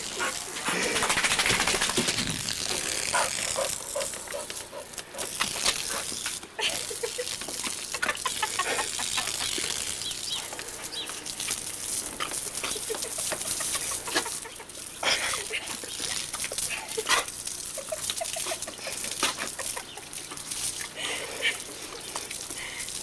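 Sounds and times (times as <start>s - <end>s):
garden hose spraying water: 0.0s - 23.0s.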